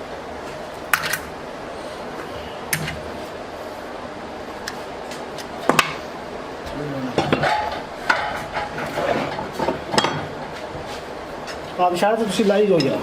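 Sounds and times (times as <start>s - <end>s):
workshop background noise: 0.0s - 13.0s.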